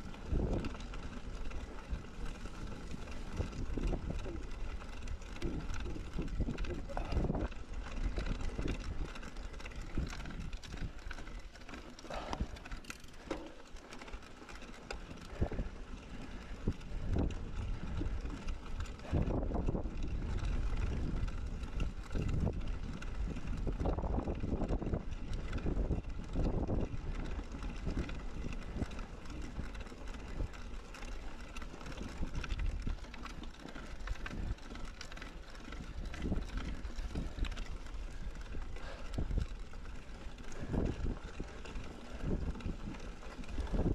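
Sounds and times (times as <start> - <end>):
wind rumbling on microphone: 0.0 - 13.6, 14.5 - 43.9
bike tyre noise on trail: 0.0 - 43.9.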